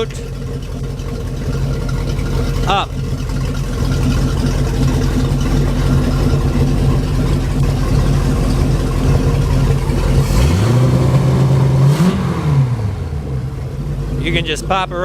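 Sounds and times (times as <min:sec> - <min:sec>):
boat engine idling and revving: 0:00.0 - 0:15.0.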